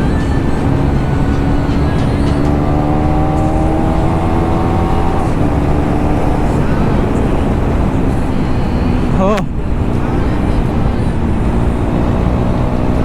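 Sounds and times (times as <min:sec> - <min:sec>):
motorcycle engine accelerating: 0:00.0 - 0:13.0
wind rushing: 0:00.0 - 0:13.0.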